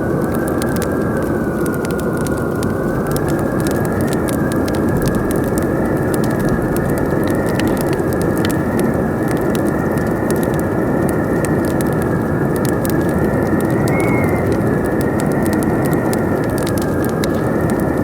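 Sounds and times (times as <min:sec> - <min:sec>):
howling wind: 0:00.0 - 0:18.0
wood fire crackling and popping: 0:00.0 - 0:18.0.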